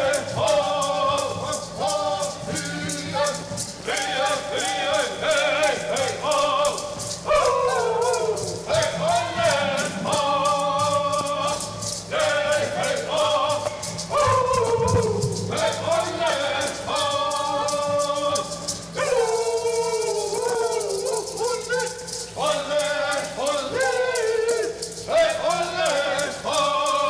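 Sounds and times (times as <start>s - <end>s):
men singing in high voices: 0.0s - 27.0s
steady rattle: 0.0s - 27.0s.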